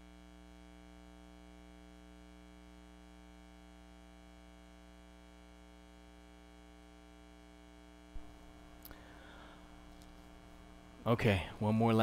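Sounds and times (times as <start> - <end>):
electrical hum with tones: 0.0 - 12.0.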